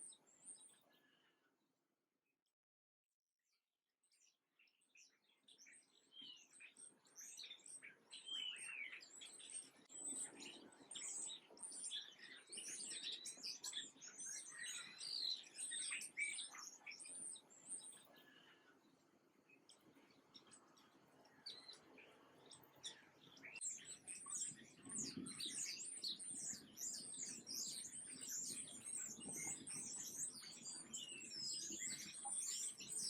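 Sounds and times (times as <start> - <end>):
small birds chirping: 0.0 - 1.4, 4.0 - 33.0.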